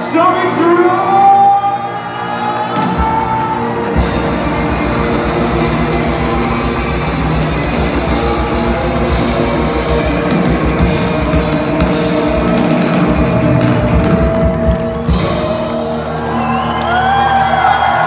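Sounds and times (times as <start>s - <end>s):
drum kit: 0.0s - 17.3s
electric guitars: 0.0s - 18.0s.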